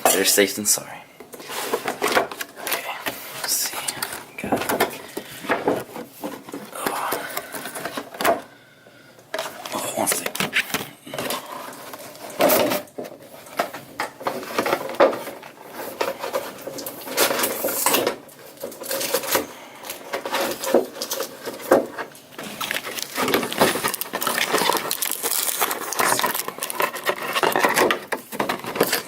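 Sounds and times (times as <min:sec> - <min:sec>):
cardboard rustling and scraping: 0:01.3 - 0:08.4, 0:09.4 - 0:29.0.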